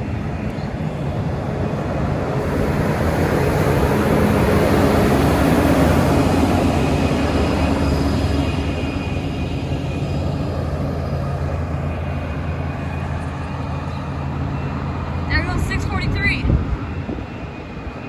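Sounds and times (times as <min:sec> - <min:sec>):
diesel locomotive passing: 0:00.0 - 0:18.0
steady train rumble: 0:00.0 - 0:18.0.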